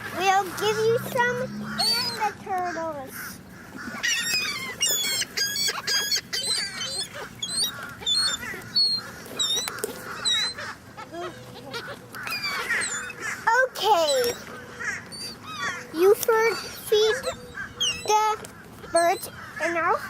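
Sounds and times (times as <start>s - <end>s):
flock of birds squawking: 0.0s - 20.0s.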